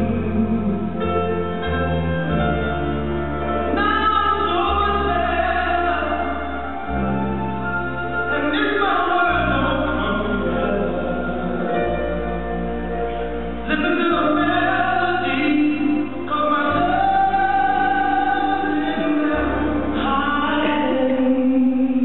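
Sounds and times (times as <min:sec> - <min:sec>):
low sustained chords: 0:00.0 - 0:22.0.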